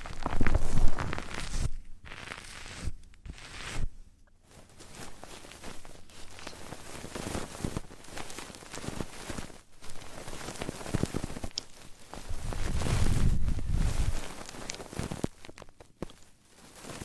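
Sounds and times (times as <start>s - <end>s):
dense crackling: 0.0s - 3.9s, 4.6s - 17.0s
scratchy rustling: 0.0s - 17.0s.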